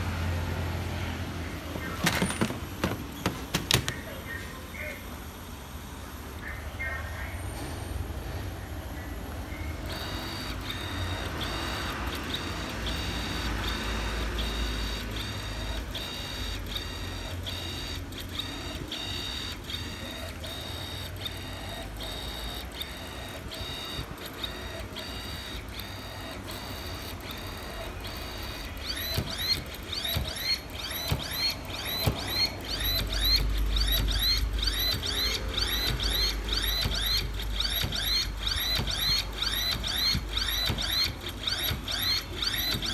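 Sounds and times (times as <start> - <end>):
stepper motor whining in pulses: 7.4 - 42.9.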